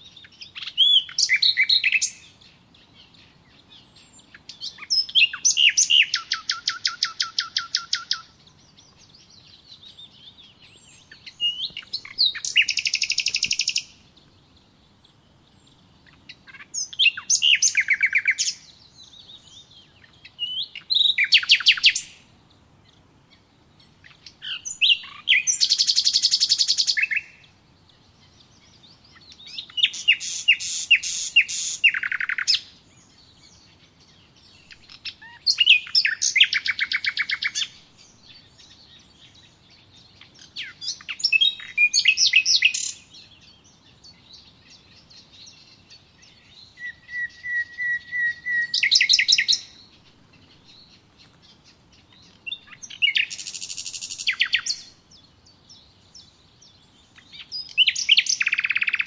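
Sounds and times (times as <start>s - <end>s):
faint bird chirps: 0.0s - 59.0s
songbird singing trilled phrases: 0.0s - 59.0s.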